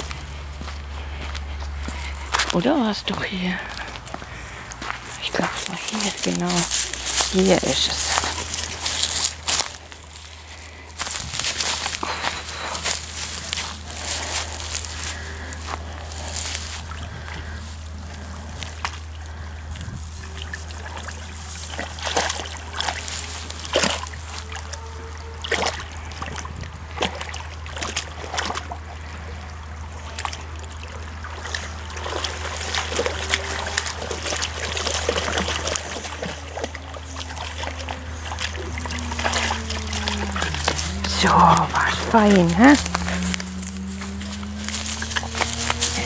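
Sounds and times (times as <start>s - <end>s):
creek trickling: 0.0s - 46.0s
paws splashing water: 0.0s - 46.0s.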